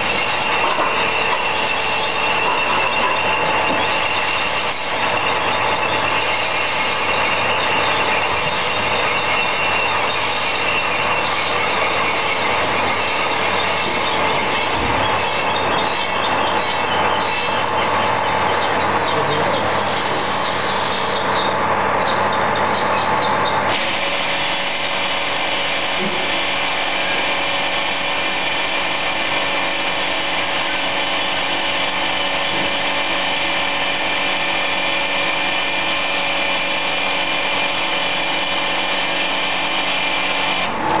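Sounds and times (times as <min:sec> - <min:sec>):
sausage cutting machine whining: 0:00.0 - 0:41.0.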